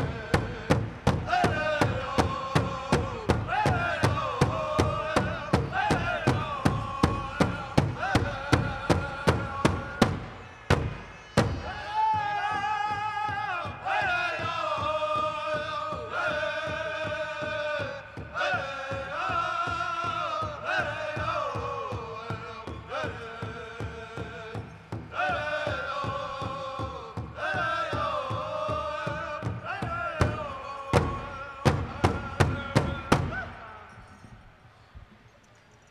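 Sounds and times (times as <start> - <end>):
big drum beating: 0.0 - 33.6
high wavering group singing: 0.0 - 34.6.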